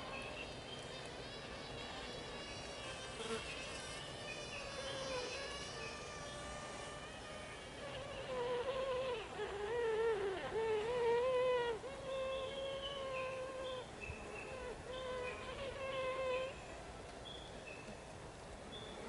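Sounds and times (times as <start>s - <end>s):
bees piping: 0.0s - 16.5s
bee colony humming: 0.0s - 16.9s.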